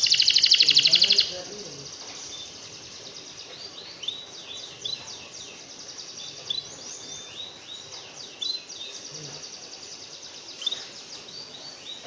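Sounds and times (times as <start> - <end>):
songbird whistling song: 0.0 - 1.6, 2.2 - 12.0
faint steady hiss: 0.0 - 12.0.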